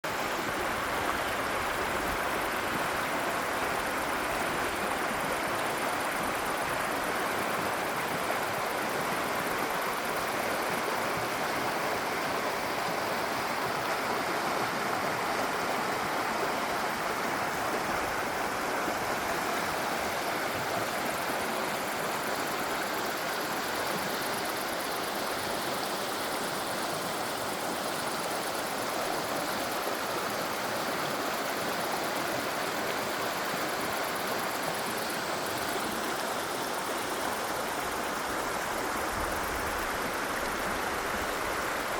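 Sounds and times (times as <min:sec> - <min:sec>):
stream rushing: 0:00.0 - 0:41.9.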